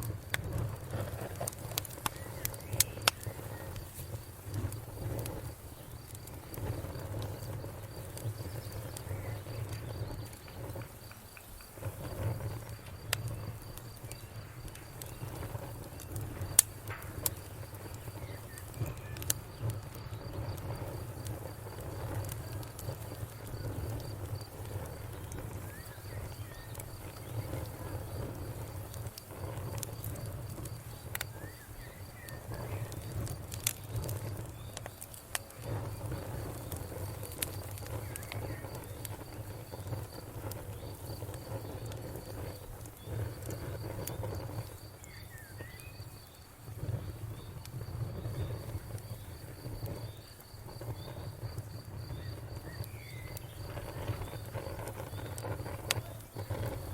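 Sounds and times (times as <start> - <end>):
cricket chirping: 0.0 - 56.9
wood fire crackling and popping: 0.0 - 56.9.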